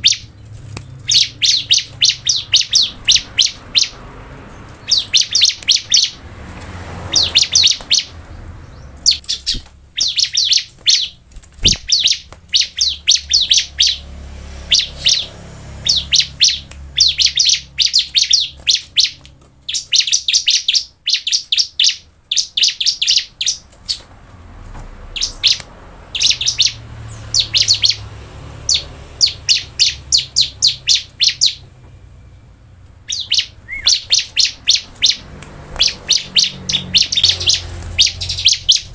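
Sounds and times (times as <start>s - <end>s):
bird chirping rapidly: 0.0s - 24.2s, 25.0s - 38.9s.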